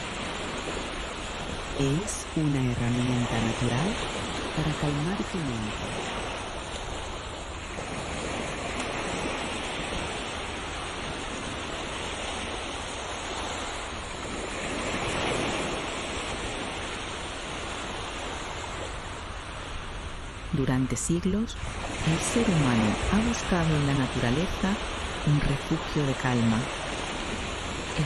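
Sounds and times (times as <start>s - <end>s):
ocean waves washing on shore: 0.0s - 28.0s.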